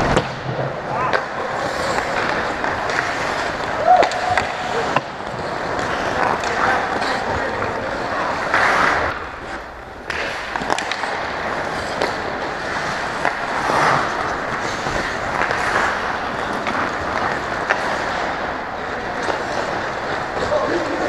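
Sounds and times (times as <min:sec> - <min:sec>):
hockey sticks and puck clacking: 0:00.0 - 0:21.0
skate blades scraping on ice: 0:00.0 - 0:21.0.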